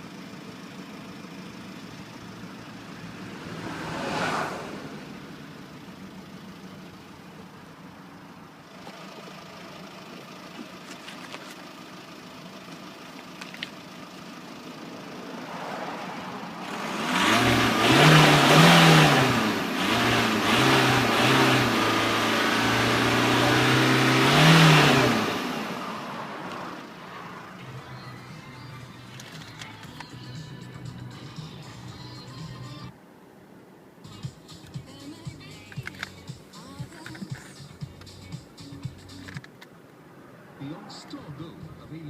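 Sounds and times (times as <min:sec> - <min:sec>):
diesel engine idling and revving: 0:00.0 - 0:42.0.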